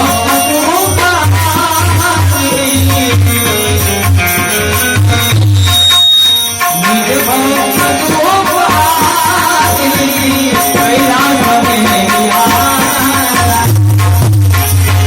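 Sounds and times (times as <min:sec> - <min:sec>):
tabla drumming: 0:00.0 - 0:15.0.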